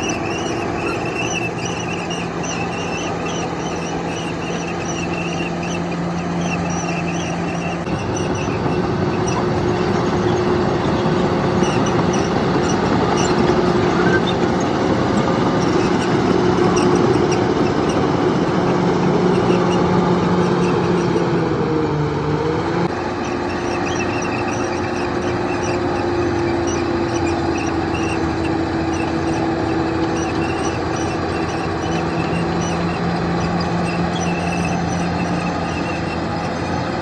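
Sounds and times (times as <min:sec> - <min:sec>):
bulldozer diesel engine running: 0:00.0 - 0:37.0
rapid high chirping squeaks: 0:00.0 - 0:37.0.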